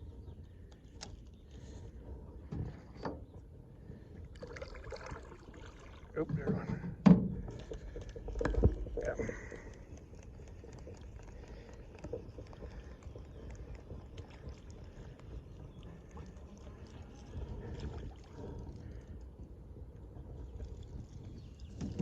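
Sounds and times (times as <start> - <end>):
faint low wind rumble: 0.0 - 22.0.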